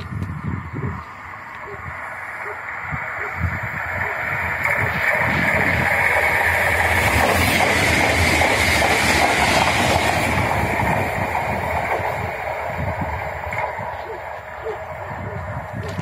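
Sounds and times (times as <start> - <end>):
train passing on rails: 0.0 - 16.0.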